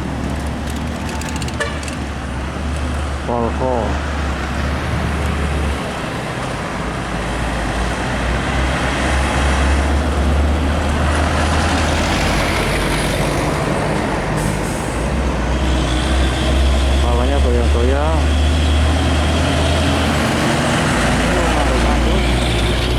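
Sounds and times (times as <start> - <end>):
truck engine rumble: 0.0 - 22.9
tyre and traffic noise: 0.0 - 22.9.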